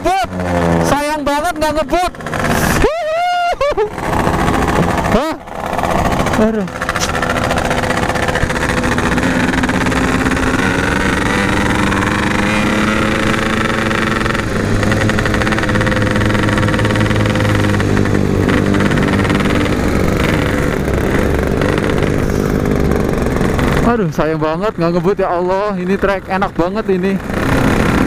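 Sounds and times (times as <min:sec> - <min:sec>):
two-stroke motorcycle engine: 0:00.0 - 0:28.0.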